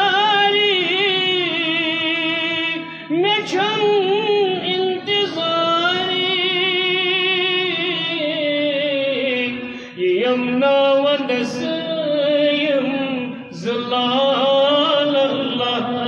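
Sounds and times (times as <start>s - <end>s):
man singing without instruments: 0.0s - 16.0s.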